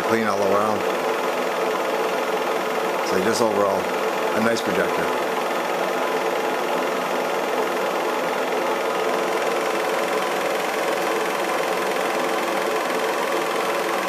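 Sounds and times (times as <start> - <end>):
film projector whirring and clattering: 0.0 - 14.0.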